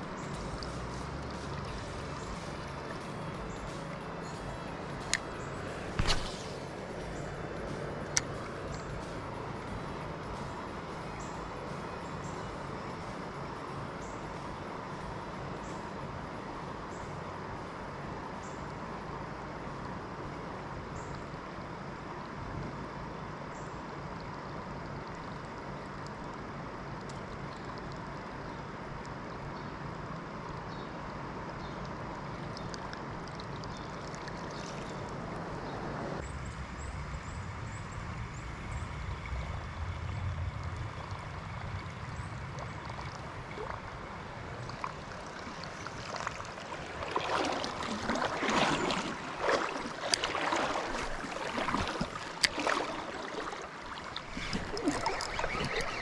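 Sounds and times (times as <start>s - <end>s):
river water rushing over shoals: 0.0s - 27.0s, 32.0s - 56.0s.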